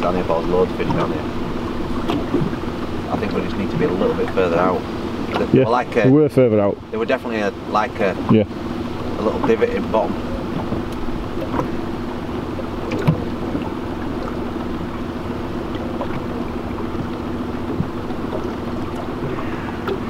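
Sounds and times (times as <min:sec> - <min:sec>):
small boat motor running: 0:00.0 - 0:20.0.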